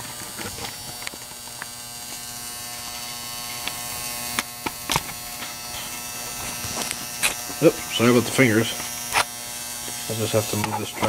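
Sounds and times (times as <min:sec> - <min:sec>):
vibratory cleaner buzzing: 0:00.0 - 0:11.0.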